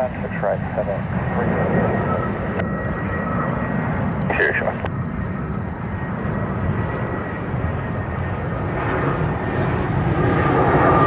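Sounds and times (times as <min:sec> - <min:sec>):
jet airliner engines rumbling: 0:00.0 - 0:11.0.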